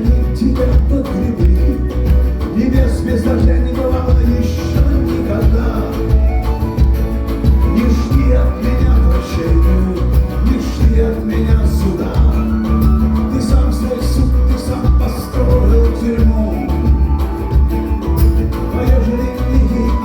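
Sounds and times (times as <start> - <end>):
band playing instrumental music: 0.0 - 20.0
pulsing bass: 0.0 - 20.0.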